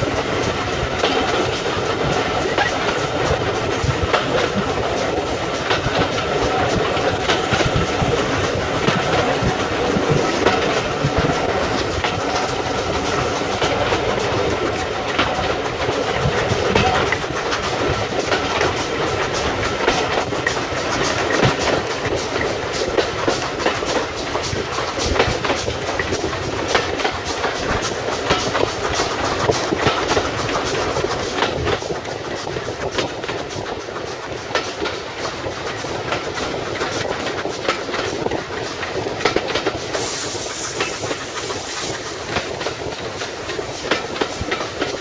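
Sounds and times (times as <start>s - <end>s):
train rumble: 0.0s - 45.0s
train wheels clicking over rail joints: 0.0s - 45.0s.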